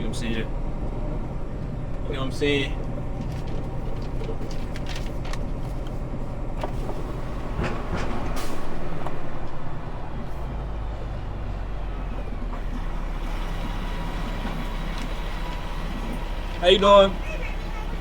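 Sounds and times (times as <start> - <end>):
truck engine hum: 0.0 - 18.0.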